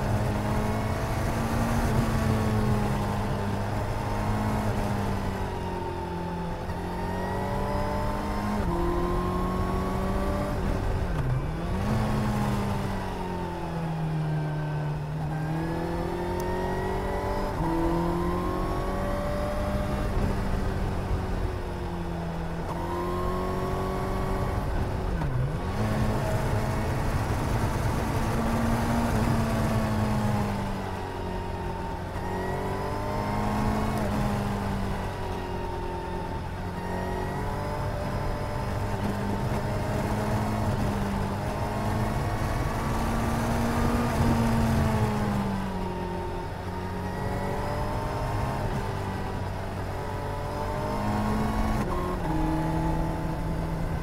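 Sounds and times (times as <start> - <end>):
motorcycle engine revving: 0.0 - 5.4, 15.2 - 54.0.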